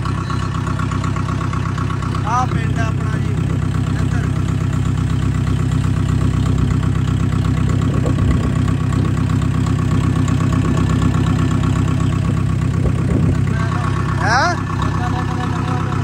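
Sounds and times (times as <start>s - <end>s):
diesel tractor engine chugging: 0.0s - 16.0s.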